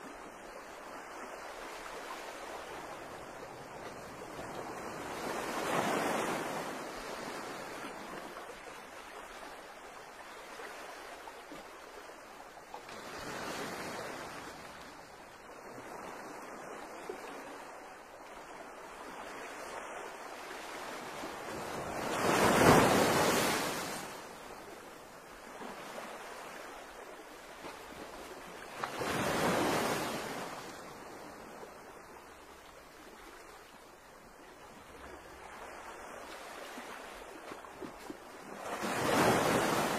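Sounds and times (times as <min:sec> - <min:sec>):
wind and water hiss: 0:00.0 - 0:39.9.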